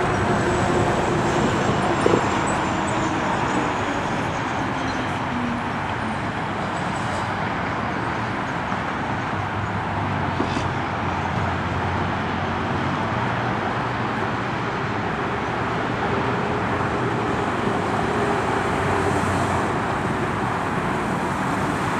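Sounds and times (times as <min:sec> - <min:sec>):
road and traffic noise: 0:00.0 - 0:21.9.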